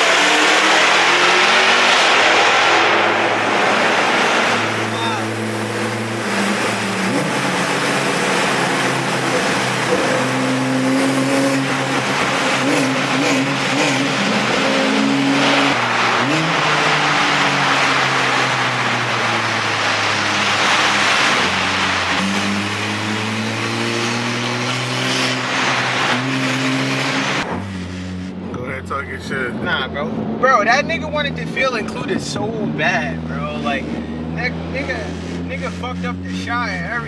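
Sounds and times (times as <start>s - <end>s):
car engine hum: 0.0s - 37.0s
road and wind noise: 0.0s - 37.0s.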